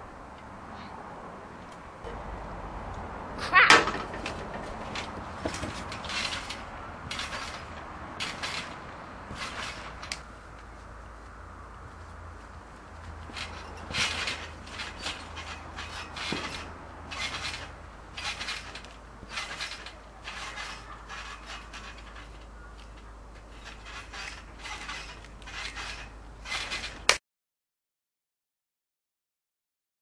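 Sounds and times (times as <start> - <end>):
trampoline springs creaking: 0.0 - 27.2.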